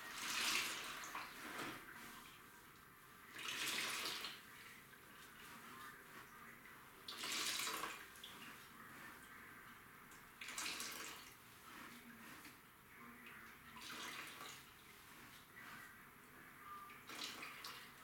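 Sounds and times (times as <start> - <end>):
mop splashing in a bucket: 0.0 - 2.6, 3.3 - 9.4, 10.1 - 12.6, 13.4 - 15.8, 17.0 - 18.0
faint water sounds: 0.0 - 18.0.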